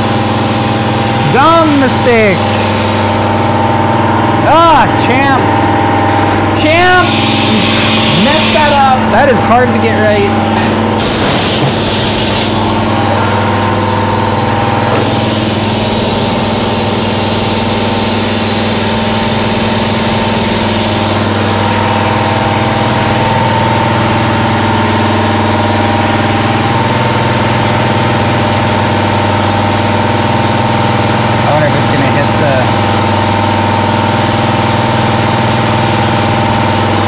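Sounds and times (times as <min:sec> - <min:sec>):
coolant hissing: 0:00.0 - 0:04.2, 0:06.3 - 0:09.4, 0:10.9 - 0:34.6
milling machine hum and whine: 0:00.0 - 0:37.0.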